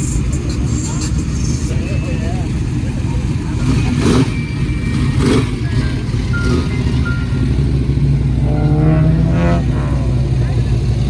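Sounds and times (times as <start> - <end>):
car engines rumbling: 0.0 - 11.0.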